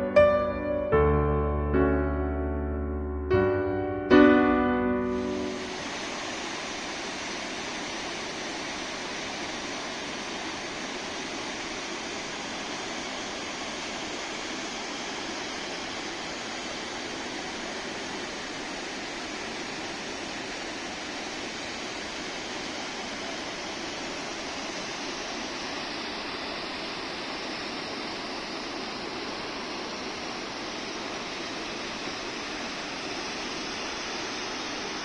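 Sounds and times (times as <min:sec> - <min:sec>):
waterfall rushing: 0:04.9 - 0:35.0.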